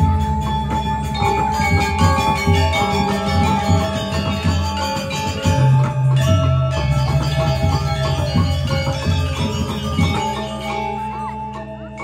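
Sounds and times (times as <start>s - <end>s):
metallophones ringing: 0.0s - 12.0s.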